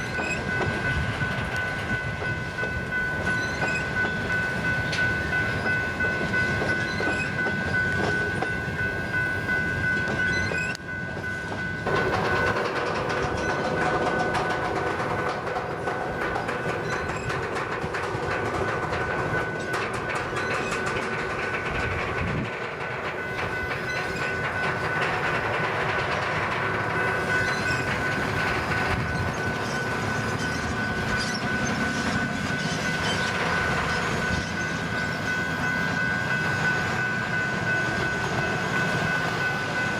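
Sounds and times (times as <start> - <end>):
train cars rolling on rails: 0.0 - 39.9
wheels clicking over rail joints: 0.0 - 39.9.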